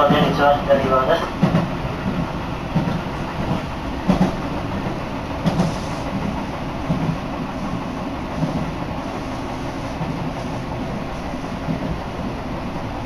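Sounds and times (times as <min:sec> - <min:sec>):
train rumbling from inside: 0:00.0 - 0:13.0.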